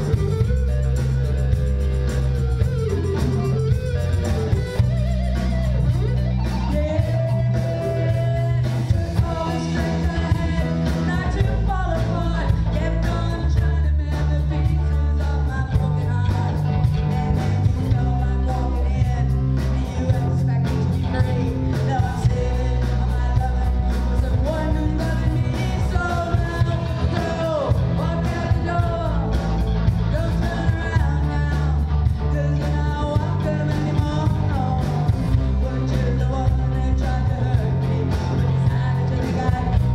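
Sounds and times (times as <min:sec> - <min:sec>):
bass guitar: 0:00.0 - 0:39.9
drums: 0:00.0 - 0:39.9
electric guitar: 0:00.0 - 0:39.9
woman singing amplified: 0:02.6 - 0:39.9.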